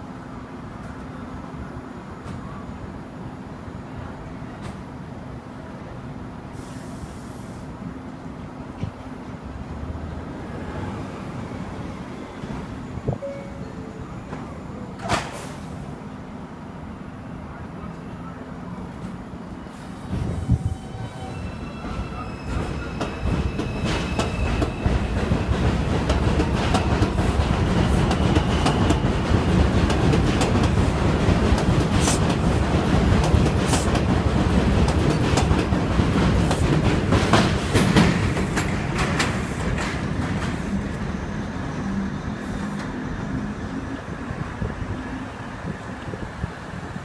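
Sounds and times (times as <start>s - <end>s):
subway train wheels clattering: 0.0s - 47.0s.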